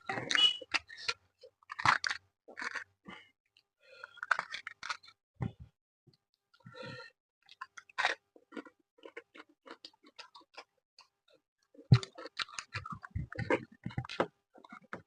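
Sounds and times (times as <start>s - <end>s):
person chewing food: 0.1s - 5.2s, 6.6s - 15.0s.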